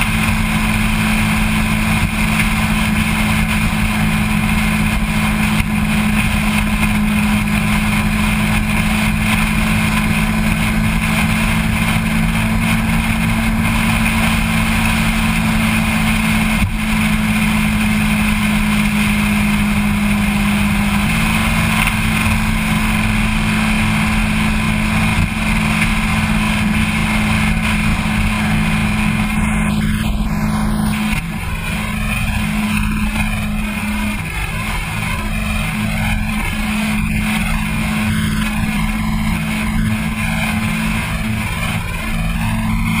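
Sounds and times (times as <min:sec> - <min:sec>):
motorcycle engine cruising: 0:00.0 - 0:43.0
wind rush over microphone: 0:00.0 - 0:43.0.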